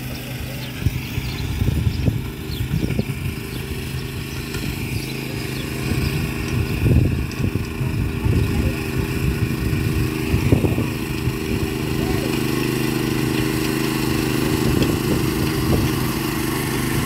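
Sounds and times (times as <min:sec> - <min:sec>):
small engine running under load: 0:00.0 - 0:17.0.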